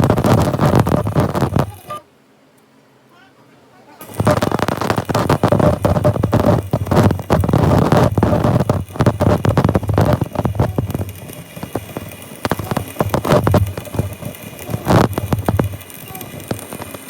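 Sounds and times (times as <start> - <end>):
rapid knocks and clatter: 0.0 - 1.8, 4.0 - 17.0
steady low hum: 0.0 - 17.0.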